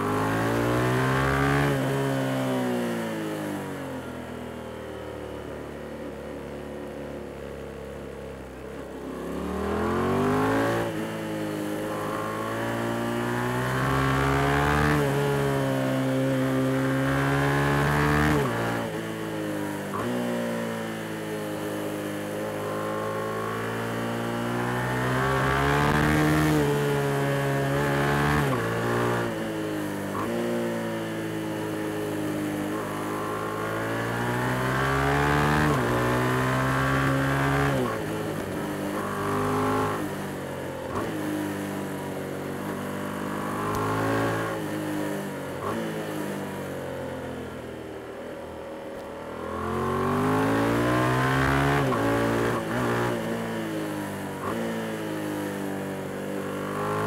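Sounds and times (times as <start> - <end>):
motorcycle engine revving: 0.0 - 3.9, 8.9 - 47.7, 49.0 - 57.0.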